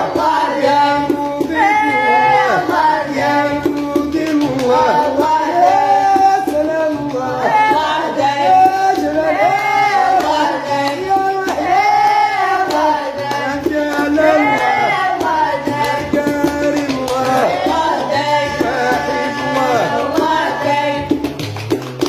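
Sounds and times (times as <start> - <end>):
women singing: 0.0 - 21.4.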